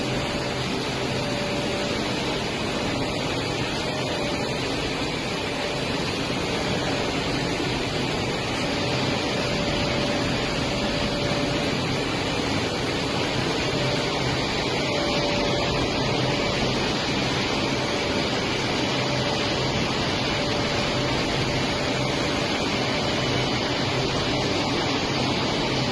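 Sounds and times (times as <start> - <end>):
bottle washing machine running: 0.0 - 25.9.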